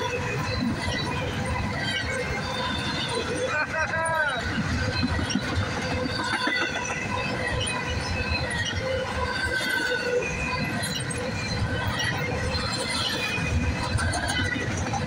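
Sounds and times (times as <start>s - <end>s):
freight train rumbling over rails: 0.0s - 15.0s
train wheel squeal: 0.0s - 15.0s.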